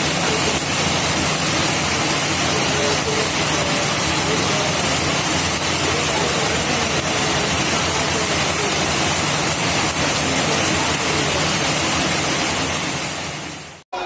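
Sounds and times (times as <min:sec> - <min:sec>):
heavy rain and floodwater rushing: 0:00.0 - 0:13.8.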